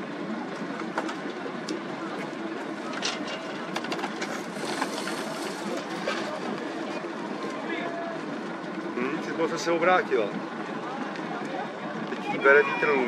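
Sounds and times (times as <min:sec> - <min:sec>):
outdoor noise over water: 0:00.0 - 0:13.0.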